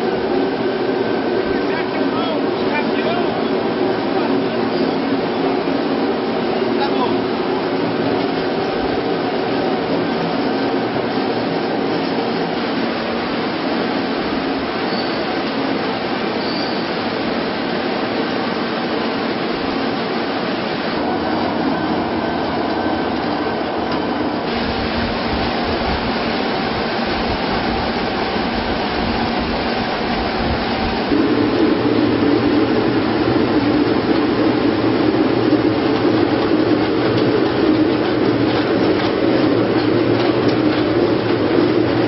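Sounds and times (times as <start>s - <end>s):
washing machine rumble and rattle: 0.0s - 42.0s.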